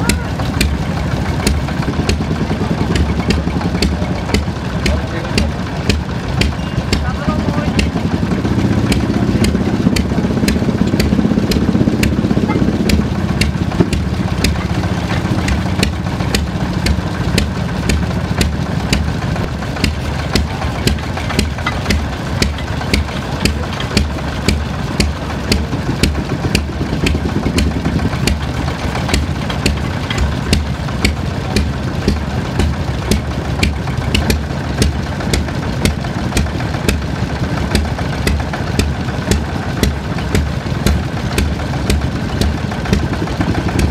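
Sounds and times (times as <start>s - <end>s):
loud low hum: 0.0s - 43.9s
stationary engine running slowly: 0.0s - 43.9s.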